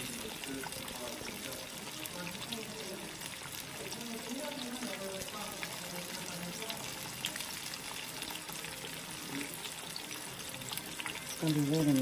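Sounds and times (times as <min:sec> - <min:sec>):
fish deep-frying in oil: 0:00.0 - 0:12.0
oil crackles and pops: 0:00.0 - 0:12.0.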